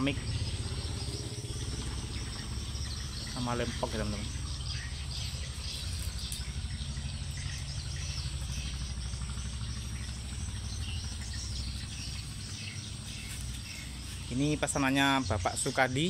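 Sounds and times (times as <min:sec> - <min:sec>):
birds chirping: 0:00.0 - 0:16.0
insects trilling: 0:00.0 - 0:16.0
steady low rumble: 0:00.0 - 0:16.0.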